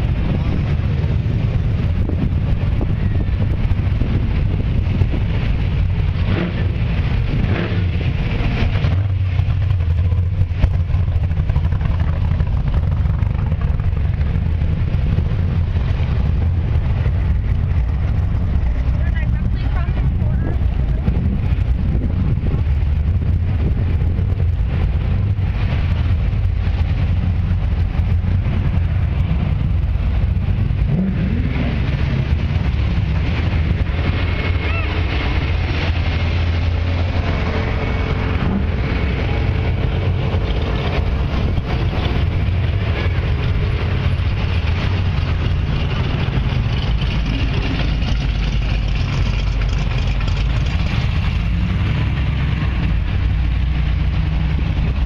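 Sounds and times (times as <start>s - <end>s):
cars driving slowly past: 0.0s - 55.0s.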